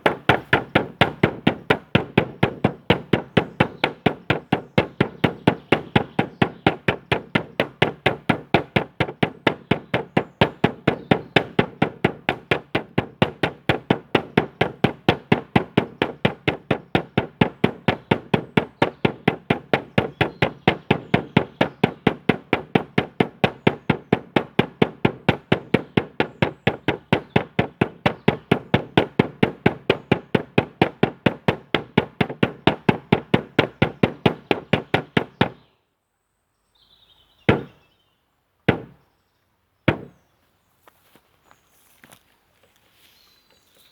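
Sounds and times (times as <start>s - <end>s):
drum beaten in steady pulse: 0.0s - 35.6s, 37.5s - 37.7s, 38.7s - 39.0s.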